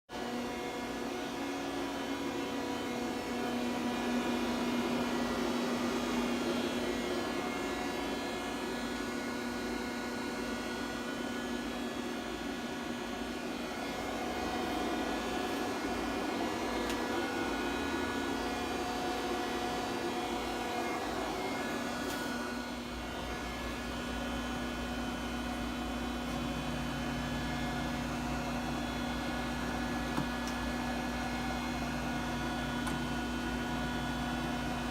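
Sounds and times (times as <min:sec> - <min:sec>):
machine hum and whir: 0:00.1 - 0:34.9.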